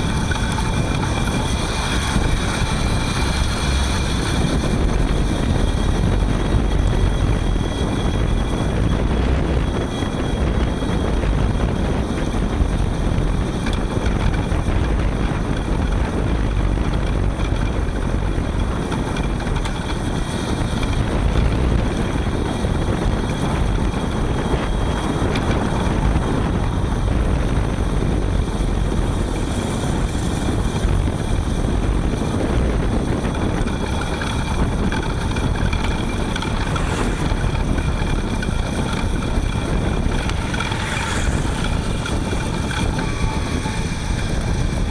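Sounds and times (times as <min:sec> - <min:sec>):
electric motor whine: 0:00.0 - 0:44.9
road rumble: 0:00.0 - 0:44.9
wind on microphone: 0:00.0 - 0:44.9.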